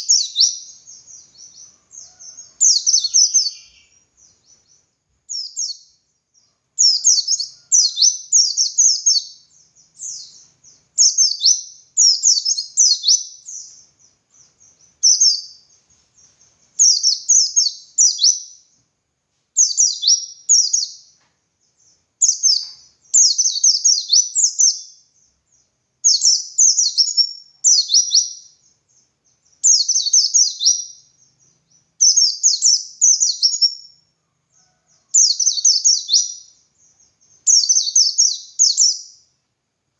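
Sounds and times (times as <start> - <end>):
white-eye twittering song: 0.0 - 18.9, 19.6 - 39.4.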